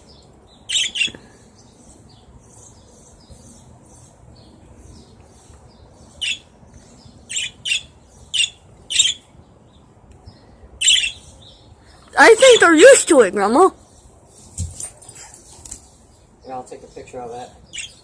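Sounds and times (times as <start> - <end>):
pet birds chirping: 0.0 - 18.0.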